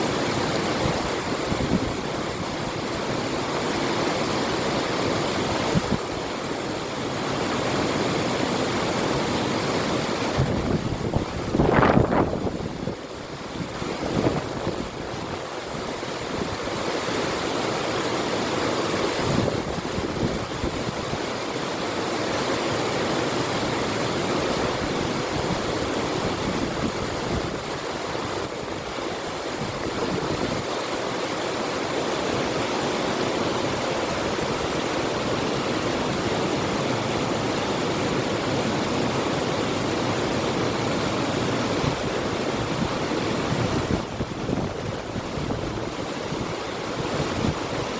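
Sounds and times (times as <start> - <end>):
river water rushing: 0.0 - 47.9
wind: 0.0 - 47.9.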